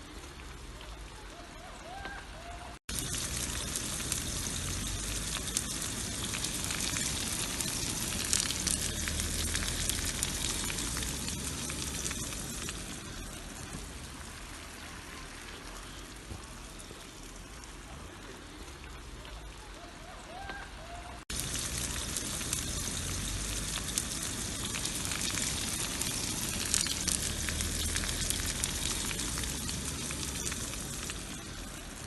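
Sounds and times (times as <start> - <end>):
sausage sizzling in oil: 2.8 - 18.1, 21.2 - 32.0.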